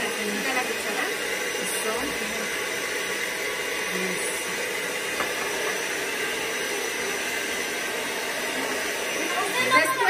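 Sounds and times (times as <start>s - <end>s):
electric hand mixer whisking batter: 0.0s - 10.0s.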